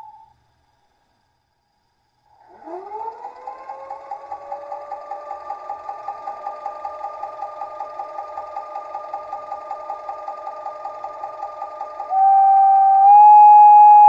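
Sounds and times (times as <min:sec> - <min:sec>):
pulsing electric locomotive whine: 0:02.4 - 0:14.0.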